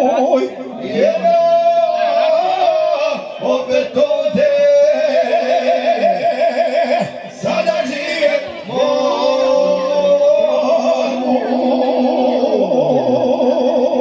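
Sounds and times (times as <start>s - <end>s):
men singing: 0.1s - 14.0s.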